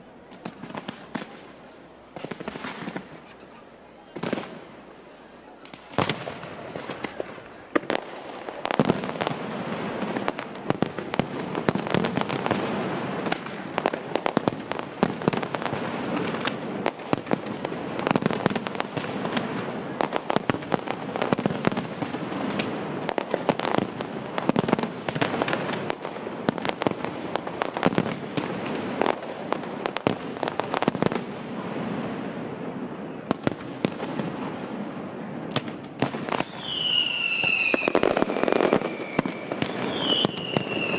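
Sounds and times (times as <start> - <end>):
crackling hiss of fireworks: 0.0 - 40.9
fireworks bursts and bangs: 0.0 - 40.9.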